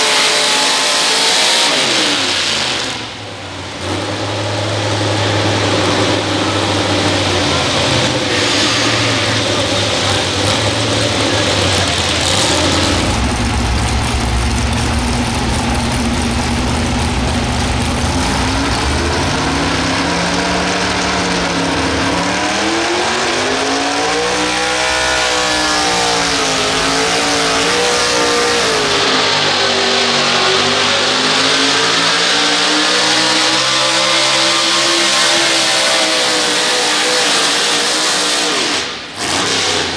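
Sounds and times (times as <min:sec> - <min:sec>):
tractor engine running at high revs: 0:00.0 - 0:39.9.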